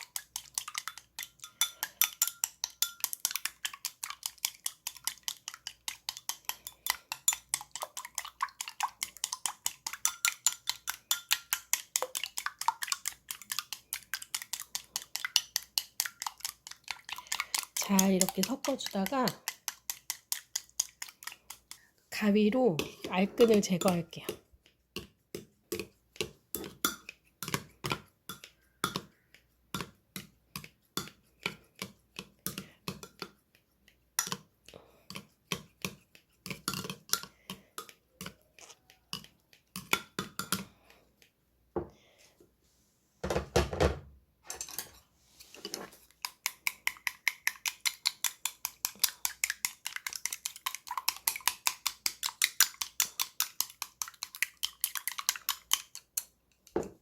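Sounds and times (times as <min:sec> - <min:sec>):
eggs beaten in a bowl: 0:00.0 - 0:42.2, 0:44.7 - 0:57.0.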